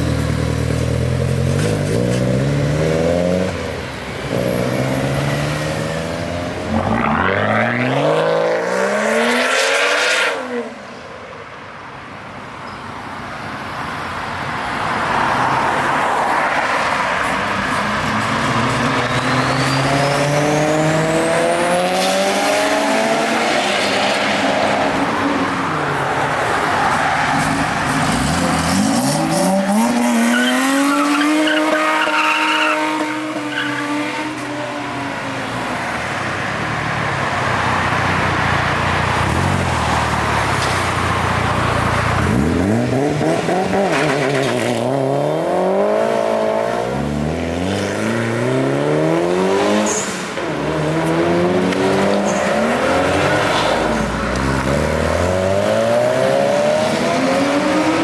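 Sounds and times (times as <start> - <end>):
car engines revving: 0.0 - 10.8, 14.2 - 58.0.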